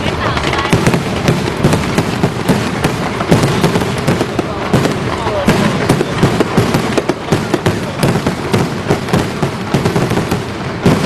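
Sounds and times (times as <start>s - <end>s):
firecrackers bangs and crackles: 0.0s - 11.0s.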